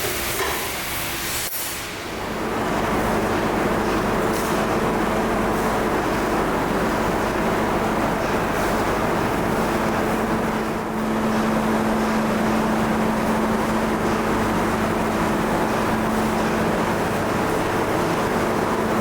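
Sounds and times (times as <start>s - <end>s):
machinery humming: 1.9s - 19.0s.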